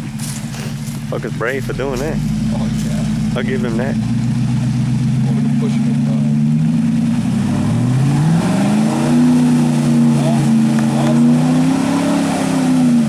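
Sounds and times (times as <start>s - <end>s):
truck churning through water and mud: 0.0s - 13.0s
truck engine revving: 0.0s - 13.0s.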